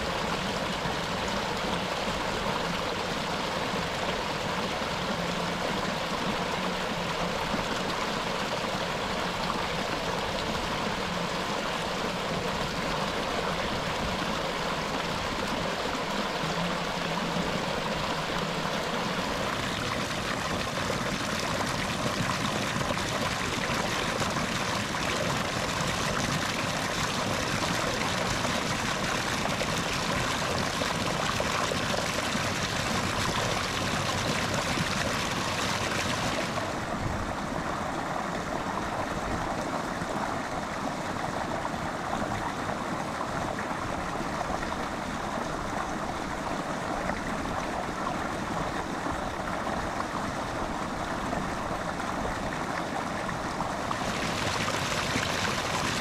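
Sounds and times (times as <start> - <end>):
water gushing from a pipe: 0.0 - 56.0
water running along a ditch: 0.0 - 56.0.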